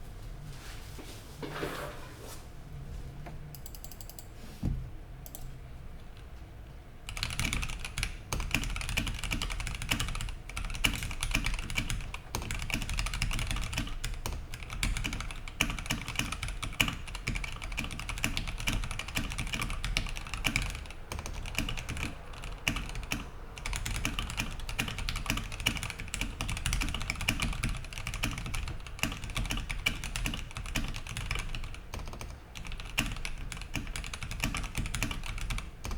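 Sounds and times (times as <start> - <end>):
fast mechanical keyboard typing: 3.6 - 4.2, 7.0 - 35.9.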